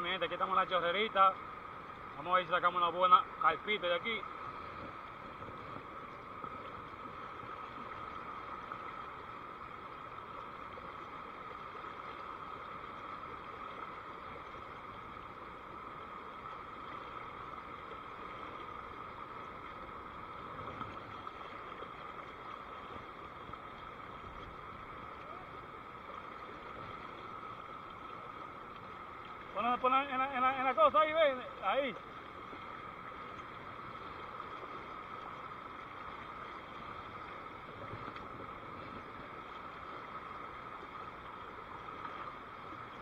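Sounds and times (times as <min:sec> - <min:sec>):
river water rushing over rapids: 0:00.0 - 0:43.0.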